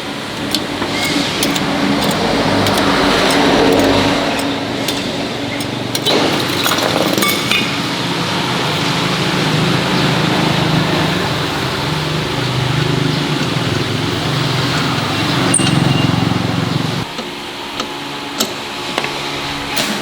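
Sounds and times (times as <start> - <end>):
motor humming: 0.0 - 17.4.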